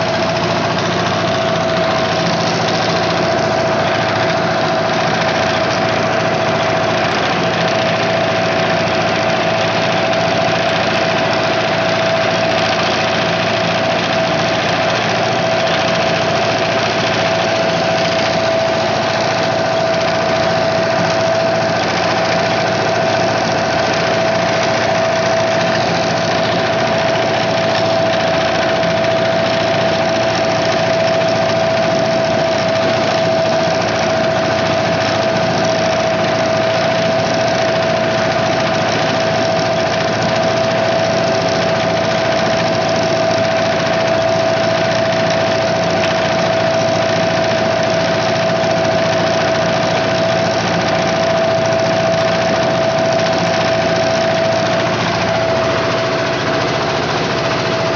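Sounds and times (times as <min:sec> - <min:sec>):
boat engine running: 0:00.0 - 0:57.9
constant whine: 0:00.0 - 0:57.9.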